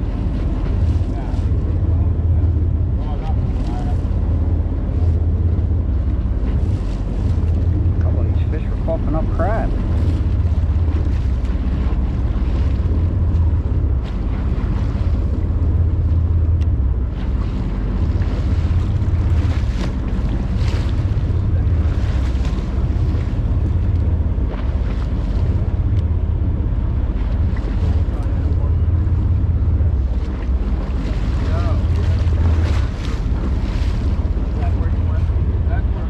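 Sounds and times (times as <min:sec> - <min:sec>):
water washing along hull: 0:00.0 - 0:36.0
wind buffeting microphone: 0:00.0 - 0:36.0.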